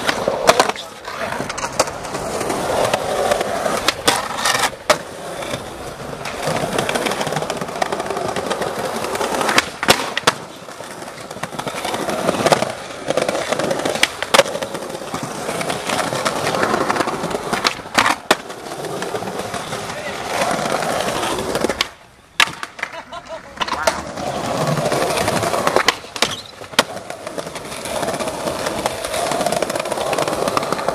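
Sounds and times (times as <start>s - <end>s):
skateboard tail pops and landings: 0.0s - 5.6s, 6.2s - 19.6s, 21.4s - 23.0s, 24.6s - 30.9s
skateboard trucks grinding stone: 0.0s - 30.9s
skateboard wheels rolling on stone: 0.0s - 30.9s.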